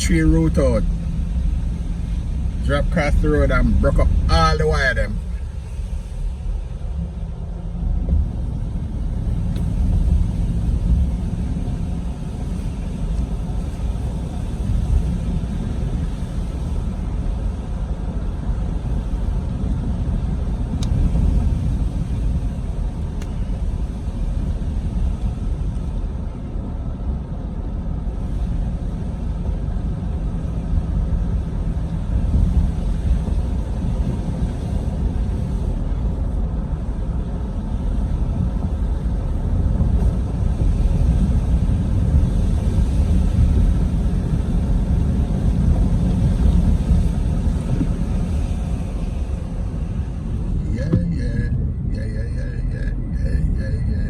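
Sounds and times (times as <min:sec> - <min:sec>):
engine and tyre road noise: 0:00.0 - 0:54.0.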